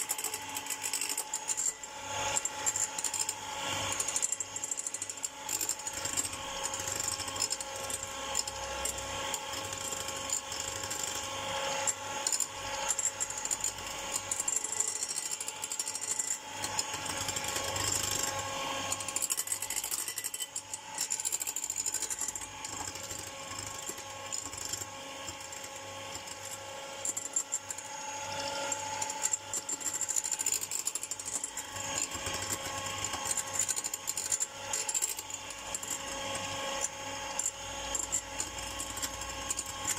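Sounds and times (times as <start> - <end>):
electric hand mixer running: 0.0 - 39.9.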